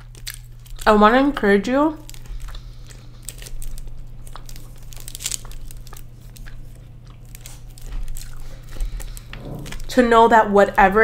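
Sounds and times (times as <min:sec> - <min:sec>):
foil crinkling: 0:00.0 - 0:11.0.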